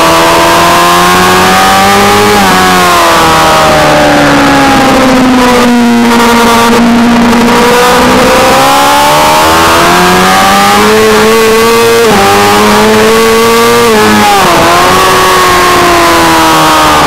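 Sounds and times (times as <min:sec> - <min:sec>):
constant rushing noise: 0:00.0 - 0:17.0
motorcycle engine revving high: 0:00.0 - 0:17.0.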